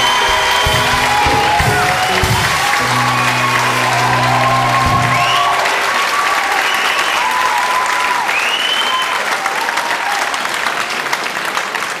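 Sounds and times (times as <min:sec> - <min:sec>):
audience applauding: 0:00.0 - 0:12.0
people cheering: 0:00.0 - 0:12.0.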